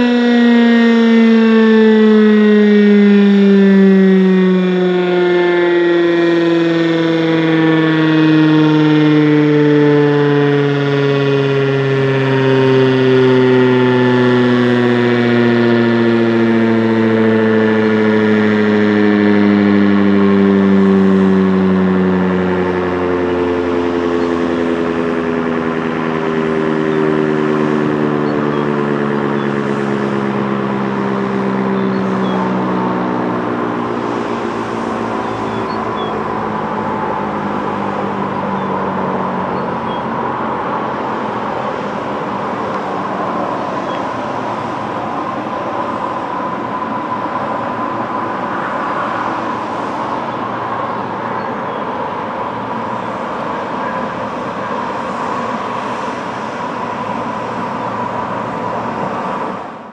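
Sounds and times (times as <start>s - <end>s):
highway traffic noise: 0.0s - 59.9s
siren winding down: 0.0s - 59.9s.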